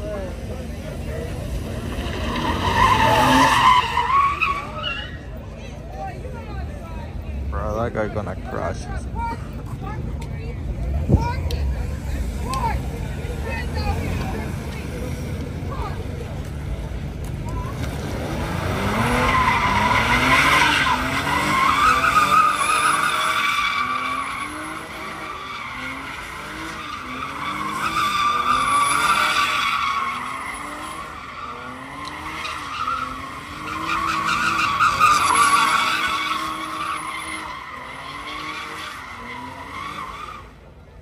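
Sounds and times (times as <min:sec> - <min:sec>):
car engine revving: 0:00.0 - 0:05.2, 0:10.8 - 0:40.6
tyres screeching on asphalt: 0:00.0 - 0:41.0.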